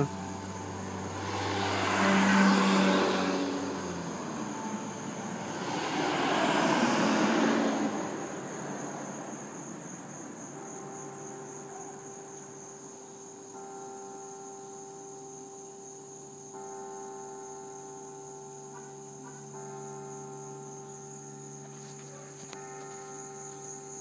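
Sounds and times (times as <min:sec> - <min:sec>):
vehicles passing on road: 0:00.0 - 0:13.5, 0:18.2 - 0:24.0
crickets chirring: 0:00.0 - 0:24.0.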